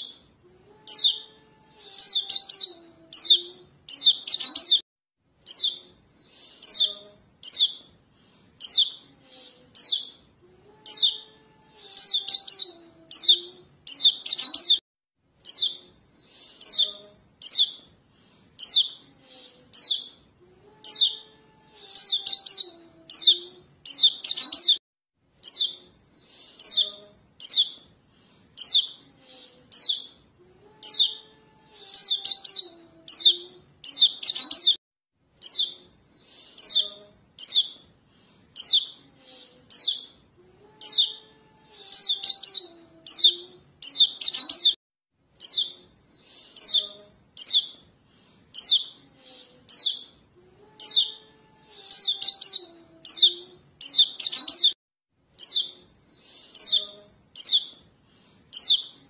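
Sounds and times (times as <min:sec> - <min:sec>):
juvenile birds chirping: 0:00.8 - 0:04.8, 0:05.4 - 0:14.8, 0:15.4 - 0:17.9, 0:18.6 - 0:20.2, 0:20.8 - 0:24.8, 0:25.4 - 0:27.8, 0:28.6 - 0:34.8, 0:35.4 - 0:37.8, 0:38.6 - 0:40.2, 0:40.8 - 0:44.8, 0:45.4 - 0:47.8, 0:48.5 - 0:54.8, 0:55.4 - 0:59.0.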